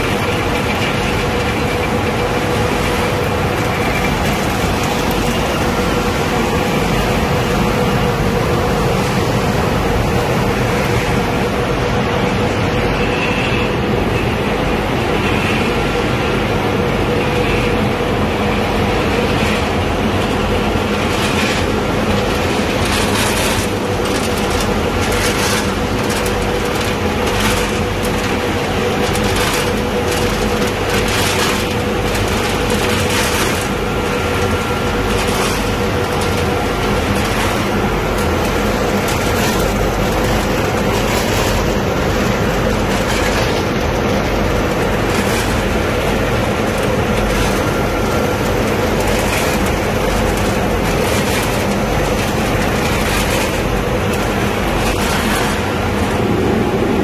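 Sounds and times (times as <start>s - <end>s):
peanuts rattling on metal conveyors: 0.0s - 12.2s, 16.5s - 57.0s
machinery hum and rumble: 0.0s - 57.0s.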